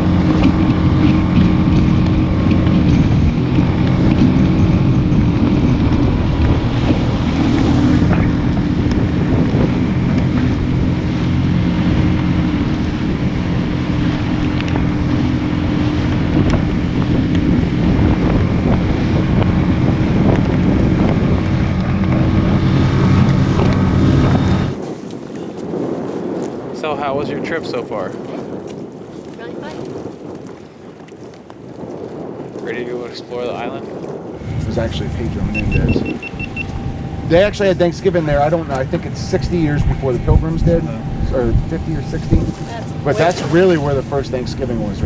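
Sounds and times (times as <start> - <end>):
outboard motor humming: 0.0 - 25.7, 34.2 - 45.0
wind buffeting microphone: 0.0 - 45.0.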